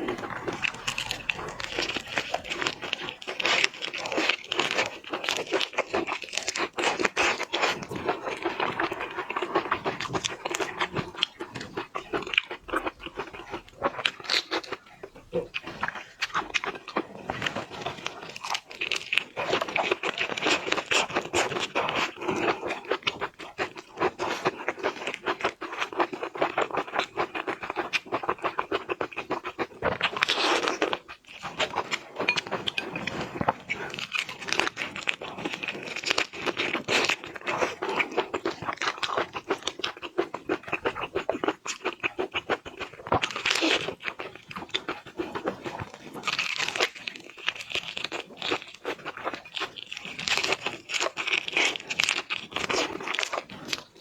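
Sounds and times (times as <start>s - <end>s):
chewing and mouth noises: 0.0s - 54.0s.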